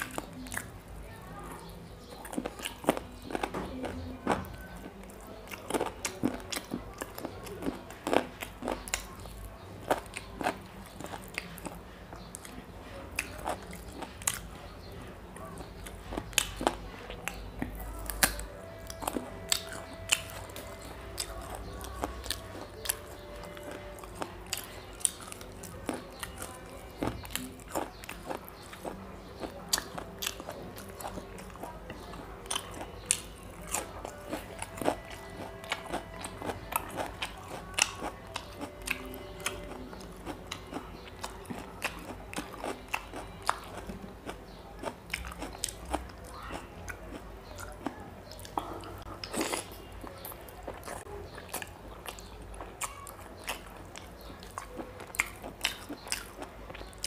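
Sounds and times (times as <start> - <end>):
person chewing with wet smacks: 0.0 - 0.9, 1.6 - 57.0.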